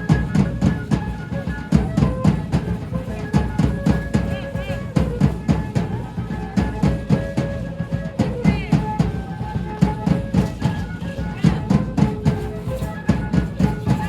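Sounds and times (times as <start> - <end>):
drum beating quick rhythm: 0.0 - 14.0.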